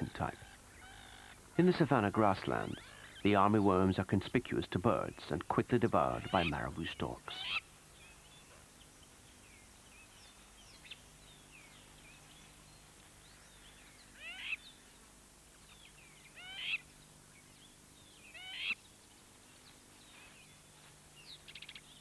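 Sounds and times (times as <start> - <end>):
loud sweeping bird calls: 0.0 - 4.0, 6.0 - 22.0
birds chirping: 0.0 - 22.0.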